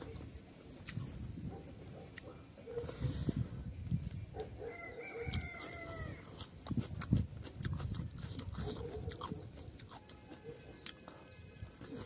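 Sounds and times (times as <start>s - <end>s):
person chewing and smacking: 0.0s - 4.6s, 5.2s - 12.0s.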